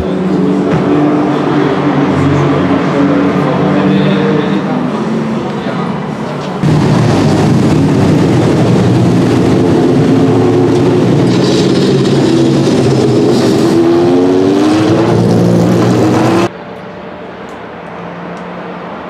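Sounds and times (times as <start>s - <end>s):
racing car engine passing: 0.0s - 16.7s.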